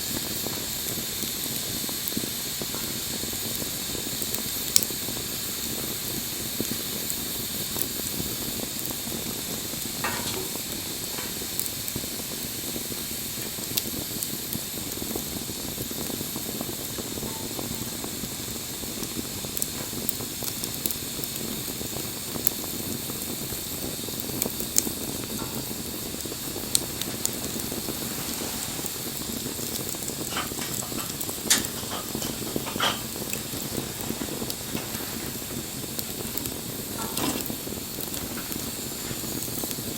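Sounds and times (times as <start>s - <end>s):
bonfire crackling and popping: 0.0s - 39.9s.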